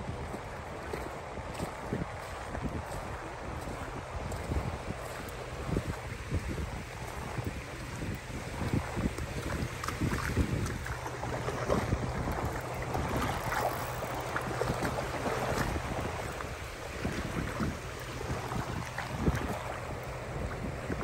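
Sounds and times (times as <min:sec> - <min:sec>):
small waves lapping on shore: 0:00.0 - 0:21.0
wind buffeting microphone: 0:00.0 - 0:21.0.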